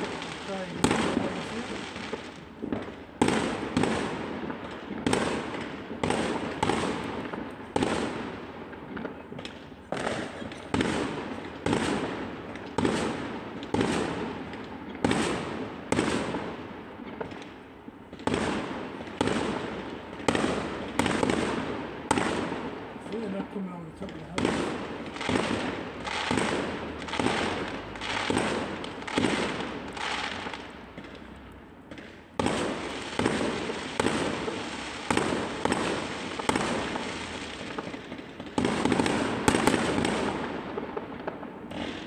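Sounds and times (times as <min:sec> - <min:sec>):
fireworks banging: 0:00.0 - 0:42.0.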